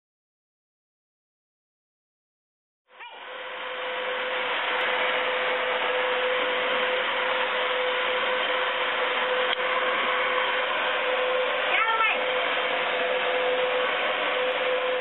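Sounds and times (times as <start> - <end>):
vacuum cleaner running on carpet: 2.9 - 15.0.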